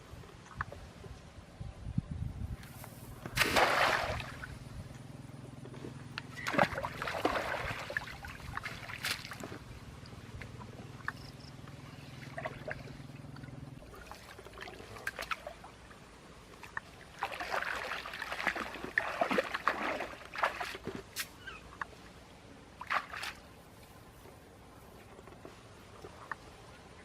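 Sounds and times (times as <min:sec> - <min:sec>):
water splashing and sloshing: 0:02.7 - 0:04.8, 0:05.6 - 0:27.0.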